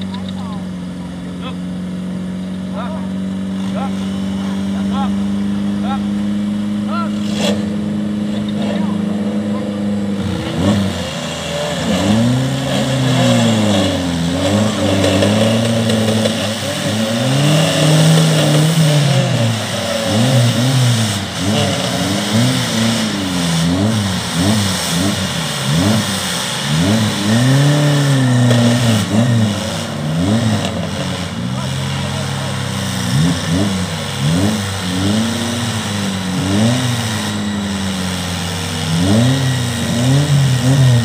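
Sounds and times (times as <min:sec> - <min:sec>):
off-road engine revving: 0:00.0 - 0:41.0.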